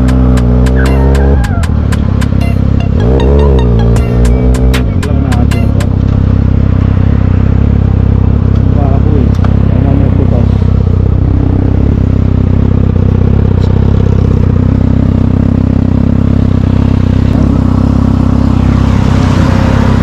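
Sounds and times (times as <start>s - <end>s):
motorcycle engine droning: 0.0s - 20.0s.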